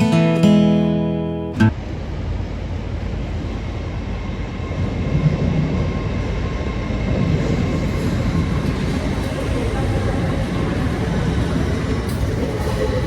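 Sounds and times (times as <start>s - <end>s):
train rumbling: 1.6s - 13.0s.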